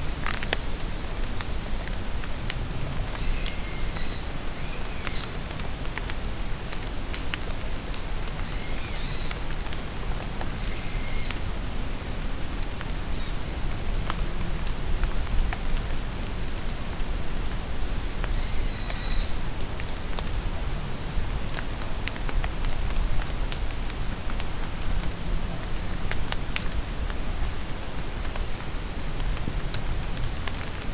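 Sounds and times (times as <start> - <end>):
rain falling in a forest: 0.0 - 30.9.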